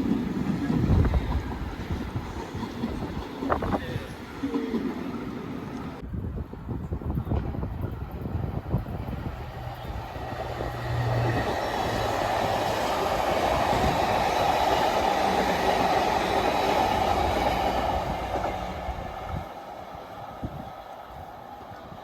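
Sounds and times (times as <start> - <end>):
train passing on rails: 0.0 - 22.0.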